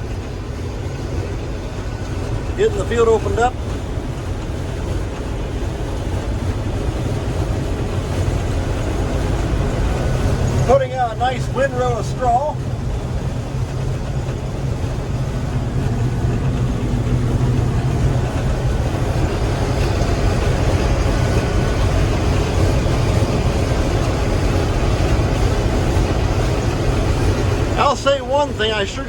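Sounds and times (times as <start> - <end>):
combine engine drone: 0.0 - 29.0
threshing machinery noise: 0.0 - 29.0.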